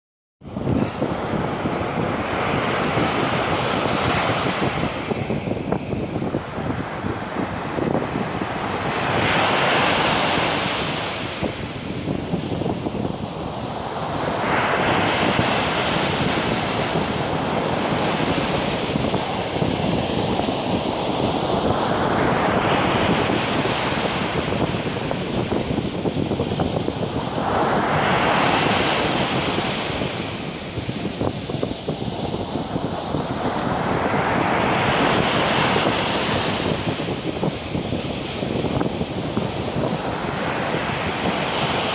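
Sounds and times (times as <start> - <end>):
waves breaking on sandy beach: 0.4 - 41.9
wind buffeting microphone: 0.4 - 41.9.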